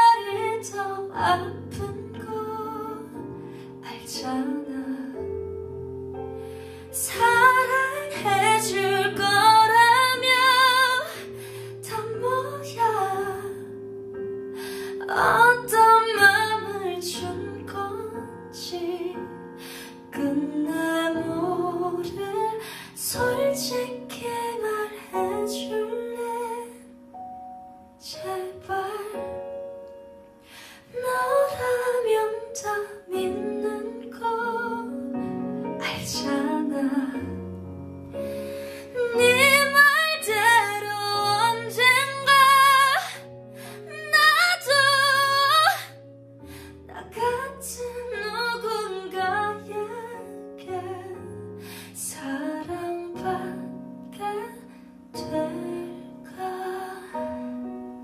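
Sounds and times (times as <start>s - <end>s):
woman singing a slow ballad: 0.0s - 5.8s, 6.8s - 13.9s, 14.5s - 27.2s, 28.0s - 29.6s, 30.6s - 58.0s.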